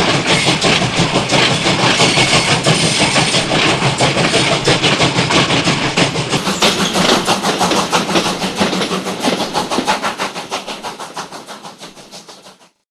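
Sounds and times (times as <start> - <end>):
steam train chugging: 0.0 - 12.8.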